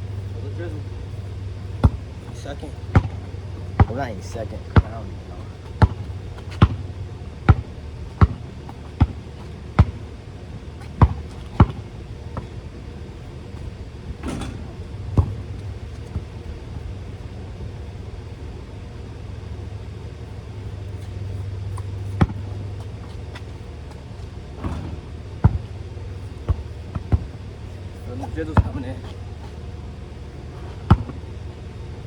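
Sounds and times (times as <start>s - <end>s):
steady low rumble: 0.0s - 32.0s
basketball thuds: 0.9s - 18.3s, 20.8s - 29.7s, 30.4s - 31.7s.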